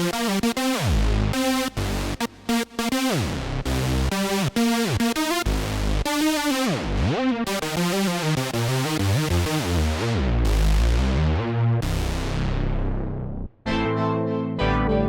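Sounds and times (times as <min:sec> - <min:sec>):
synth bass notes: 0:00.0 - 0:15.0.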